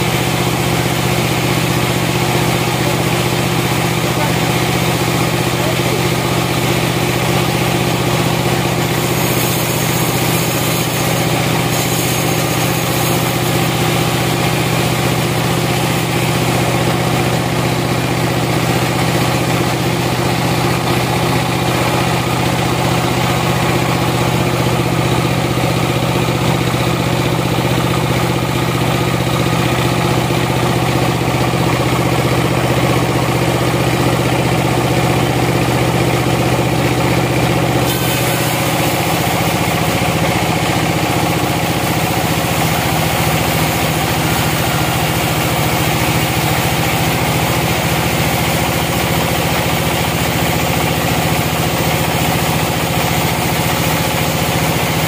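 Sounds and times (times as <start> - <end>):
band sawmill drone: 0.0 - 55.0.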